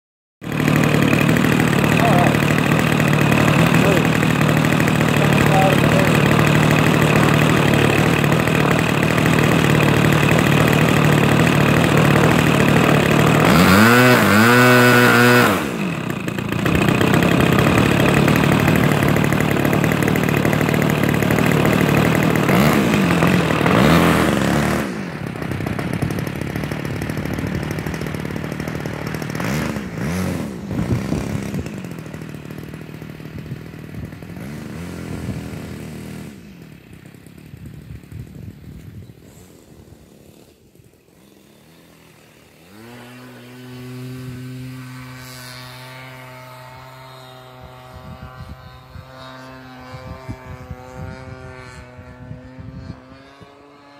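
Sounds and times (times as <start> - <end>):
model airplane engine and propeller: 0.4 - 53.9.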